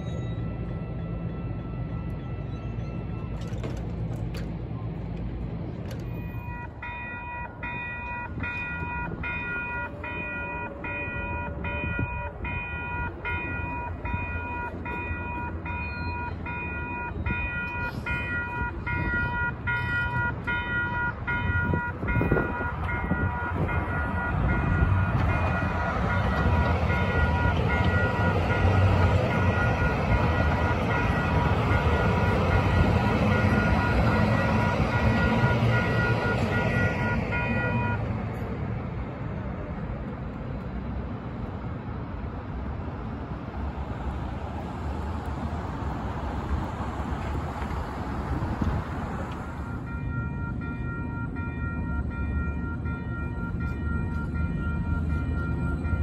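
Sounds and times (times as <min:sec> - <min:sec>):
level-crossing warning bells: 0:00.0 - 0:43.4, 0:44.9 - 0:56.0
light-rail train rumbling: 0:00.0 - 0:56.0.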